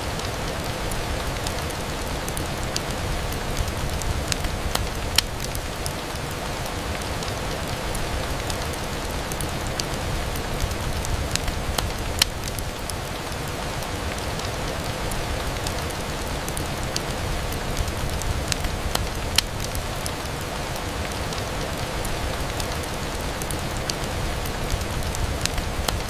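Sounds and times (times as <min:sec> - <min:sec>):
rain on a window: 0:00.0 - 0:26.0.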